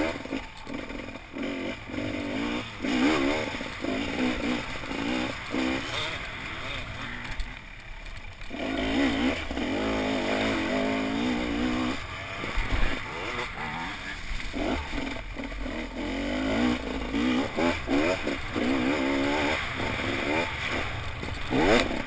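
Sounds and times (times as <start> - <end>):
dirt bike engine revving: 0.0 - 7.8, 8.4 - 22.0.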